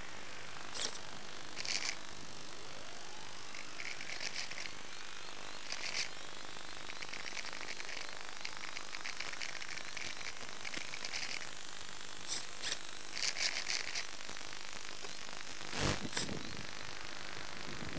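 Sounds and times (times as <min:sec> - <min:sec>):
crackling bursts: 0:00.0 - 0:17.9
steady hiss: 0:00.0 - 0:17.9.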